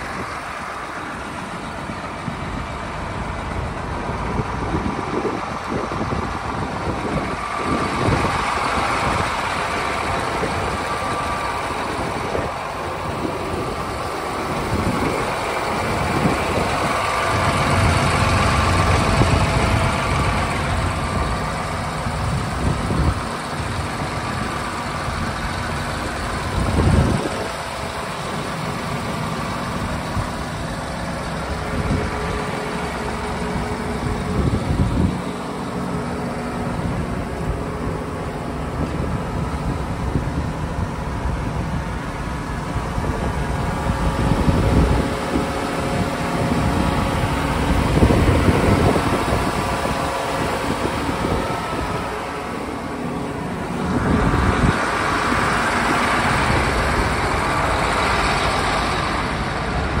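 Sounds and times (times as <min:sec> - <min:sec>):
diesel engine idling: 0:00.0 - 1:00.0.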